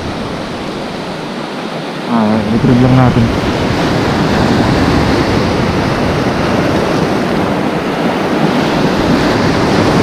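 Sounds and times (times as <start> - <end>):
waves breaking on rocks: 0.0 - 10.0.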